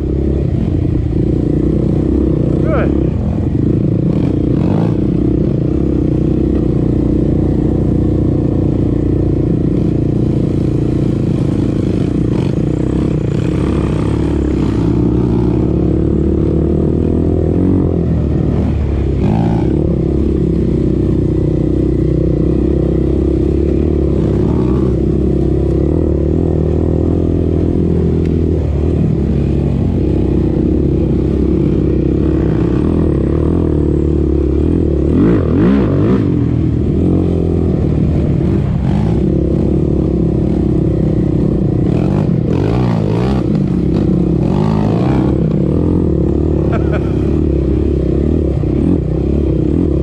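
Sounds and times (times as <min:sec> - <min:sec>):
quad engine running: 0:00.0 - 0:50.0.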